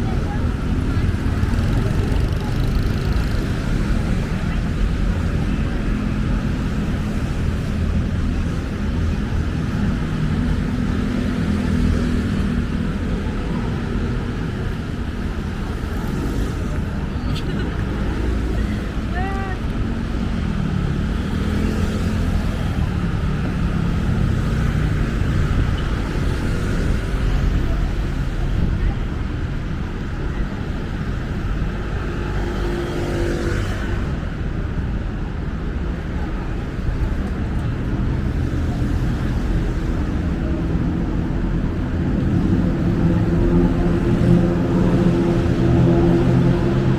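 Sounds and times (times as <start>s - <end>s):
road noise: 0.0s - 46.9s
vehicle engines running: 0.0s - 46.9s.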